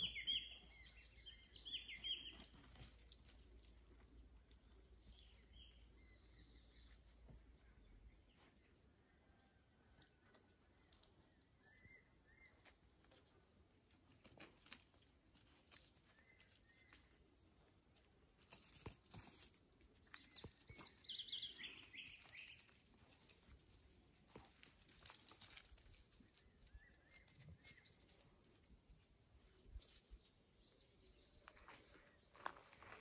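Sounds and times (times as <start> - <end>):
dog paws on gravel: 0.0 - 7.6, 12.7 - 30.2, 31.2 - 33.0.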